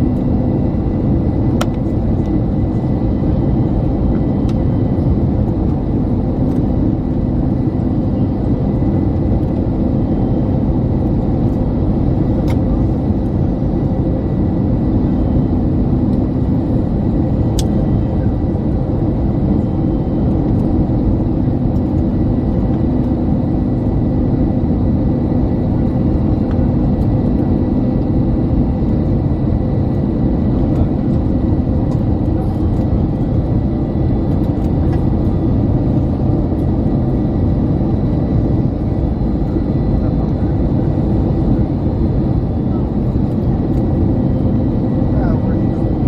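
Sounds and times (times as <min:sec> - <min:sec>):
jet engine rumble and rushing air: 0:00.0 - 0:46.0.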